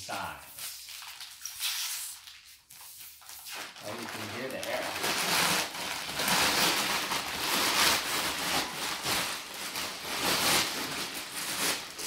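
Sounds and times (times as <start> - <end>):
plastic wrapping crinkling: 0.5 - 12.0.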